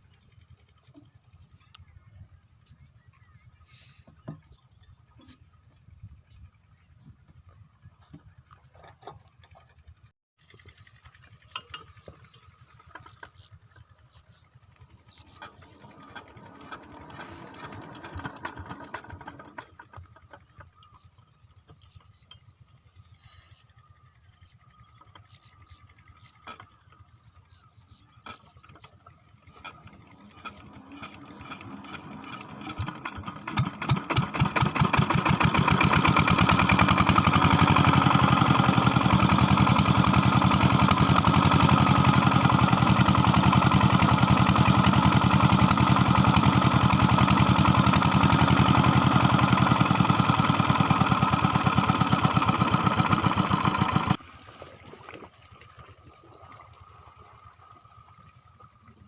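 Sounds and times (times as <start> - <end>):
diesel engine starting and running: 0.0 - 55.4.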